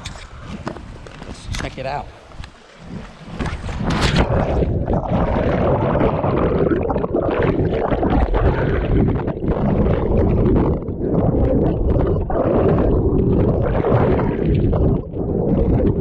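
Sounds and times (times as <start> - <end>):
muffled underwater rumble: 2.8 - 16.0.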